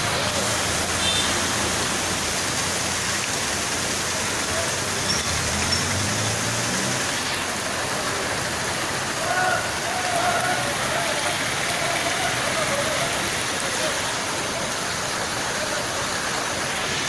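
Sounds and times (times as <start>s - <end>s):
rain on a wet street: 0.0s - 17.0s.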